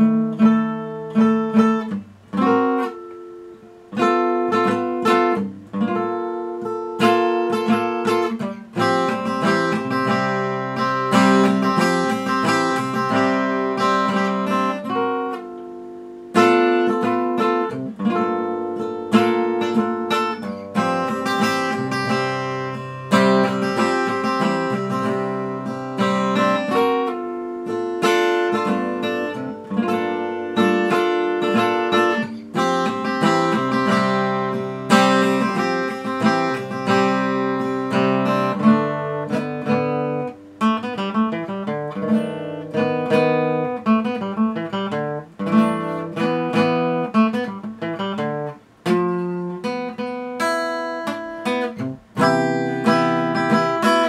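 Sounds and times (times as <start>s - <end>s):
acoustic guitar chords: 0.0s - 54.0s.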